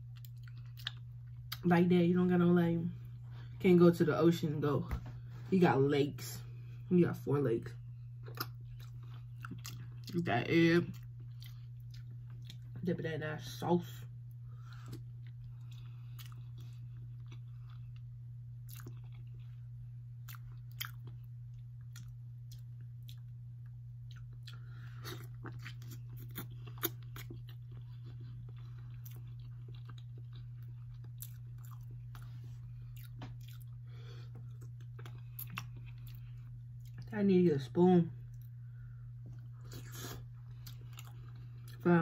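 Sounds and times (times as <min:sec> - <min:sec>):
chewing and crunching food: 0:00.0 - 0:03.7, 0:06.5 - 0:42.0
steady low hum: 0:00.0 - 0:42.0.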